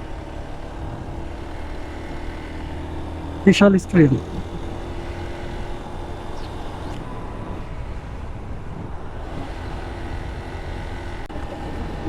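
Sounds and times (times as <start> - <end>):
motorcycle engine: 0.0 - 12.0
road noise: 0.0 - 12.0.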